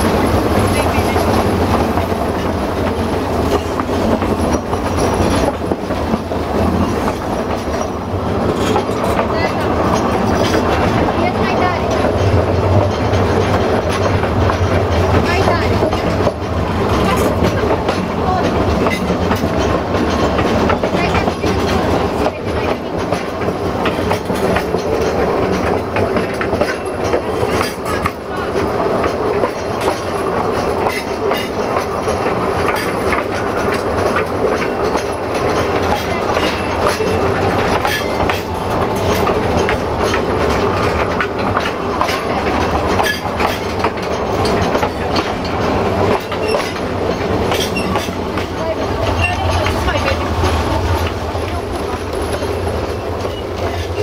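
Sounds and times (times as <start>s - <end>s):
train carriages rumbling: 0.0s - 54.0s
wheels clicking over rails: 0.0s - 54.0s.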